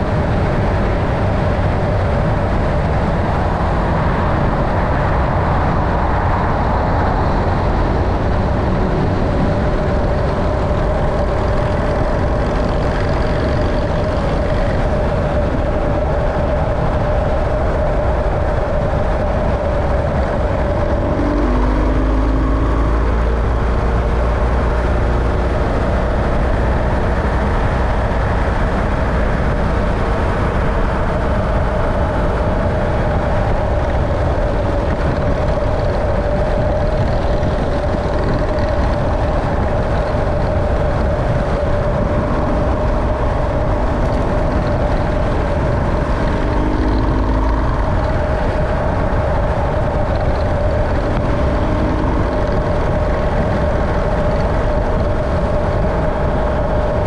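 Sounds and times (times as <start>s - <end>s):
road vehicle running: 0.0s - 57.0s.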